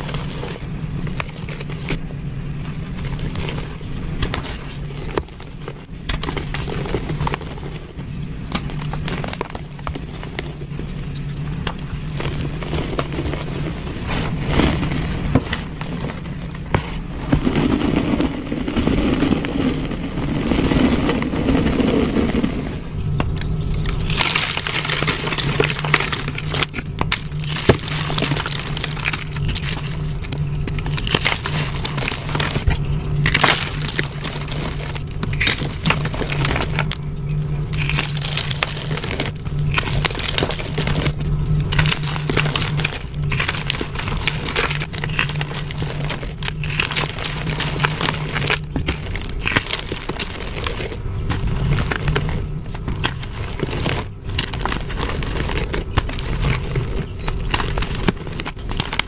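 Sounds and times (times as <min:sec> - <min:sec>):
hands crushing chalk blocks: 0:00.0 - 0:59.0
low steady hum: 0:00.0 - 0:59.0.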